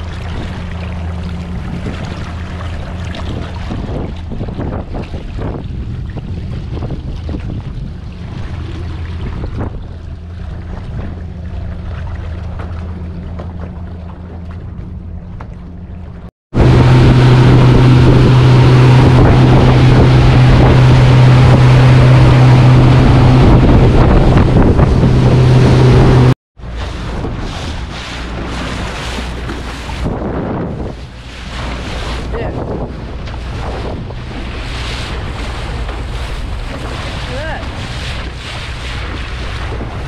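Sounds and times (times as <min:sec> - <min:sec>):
wind buffeting microphone: 0:00.0 - 0:15.5, 0:16.6 - 0:40.0
boat engine drone: 0:00.0 - 0:40.0
rushing water: 0:00.0 - 0:40.0.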